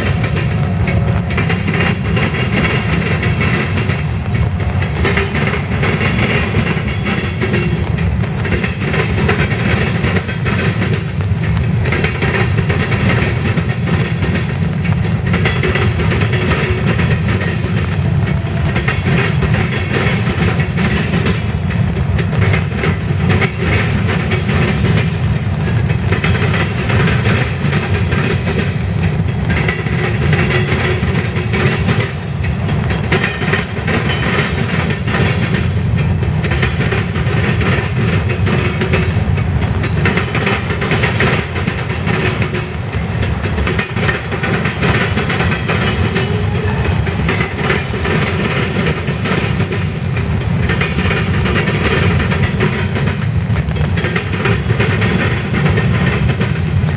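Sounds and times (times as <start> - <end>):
freight train rumbling past: 0.0 - 56.9
train wheels clacking over rail joints: 0.0 - 56.9.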